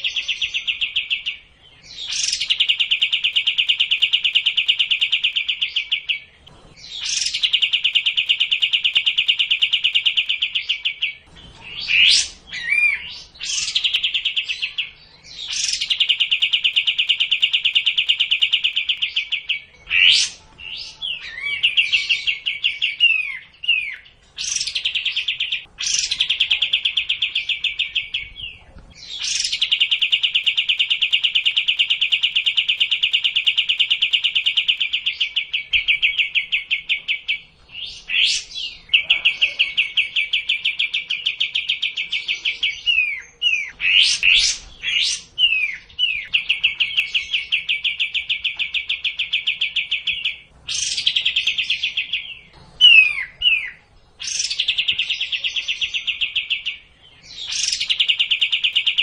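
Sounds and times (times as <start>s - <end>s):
bird singing buzzy trills: 0.0s - 59.0s.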